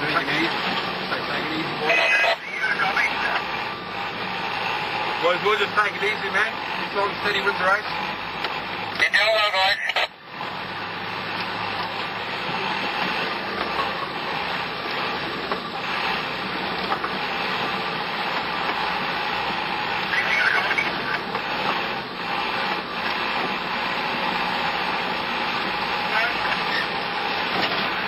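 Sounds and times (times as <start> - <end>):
vehicle cab noise off-road: 0.0 - 28.0.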